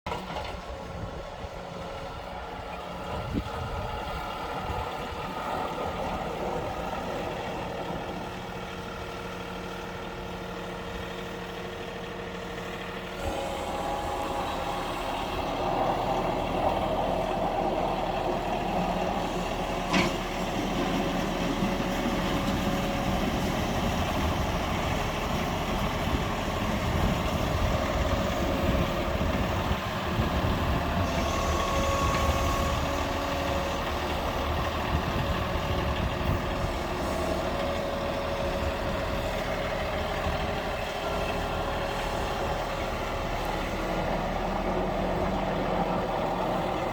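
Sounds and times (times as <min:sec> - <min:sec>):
tractor diesel engine running: 0:00.1 - 0:46.9.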